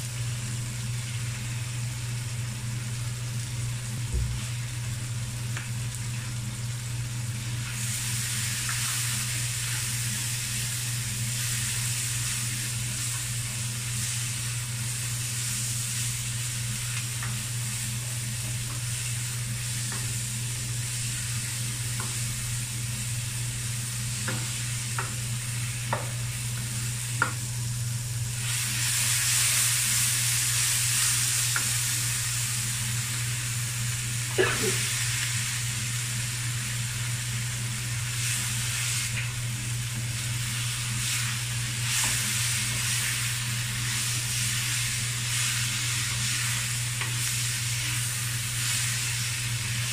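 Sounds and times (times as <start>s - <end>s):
steady low hum: 0.0s - 49.9s
vegetables sizzling in a wok: 0.0s - 49.9s.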